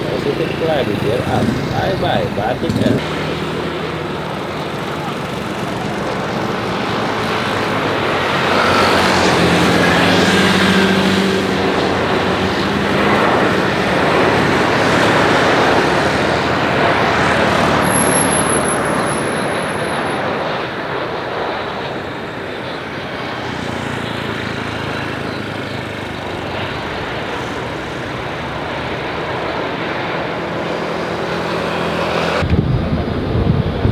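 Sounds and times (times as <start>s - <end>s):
jet airliner passing overhead: 0.0s - 33.9s.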